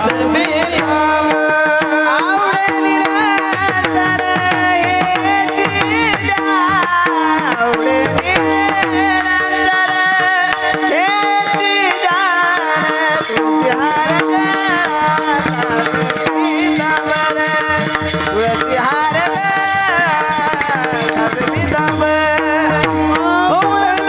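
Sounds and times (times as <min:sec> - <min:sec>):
man singing: 0:00.0 - 0:24.0.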